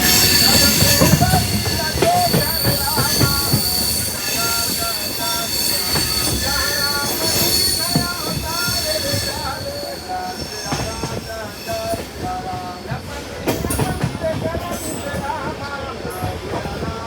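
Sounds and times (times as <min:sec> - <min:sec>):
train rumbling on rails: 0:00.0 - 0:17.0
train wheel squeal: 0:00.0 - 0:17.0.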